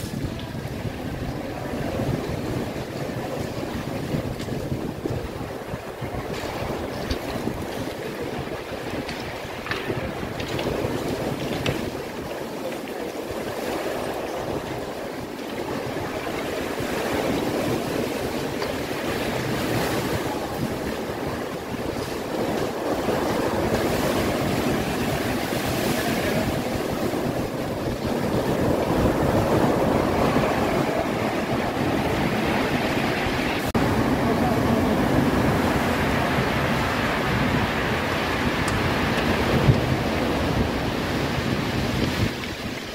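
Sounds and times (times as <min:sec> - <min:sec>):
sea waves on rocky shore: 0:00.0 - 0:42.9
wind on microphone: 0:00.0 - 0:42.9.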